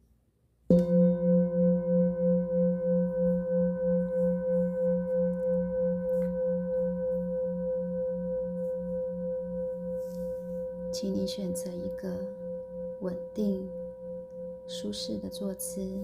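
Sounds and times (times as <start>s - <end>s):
singing bowl ringing: 0.7s - 16.0s.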